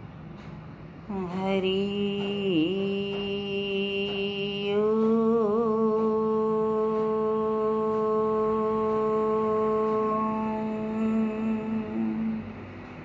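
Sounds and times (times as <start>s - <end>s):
woman chanting om: 1.0s - 13.0s.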